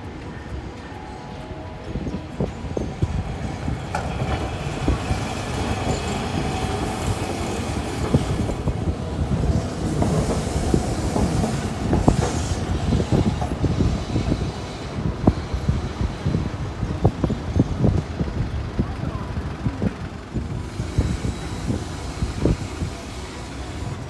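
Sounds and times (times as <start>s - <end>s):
tram wheels clattering over rail joints: 0.0s - 24.0s.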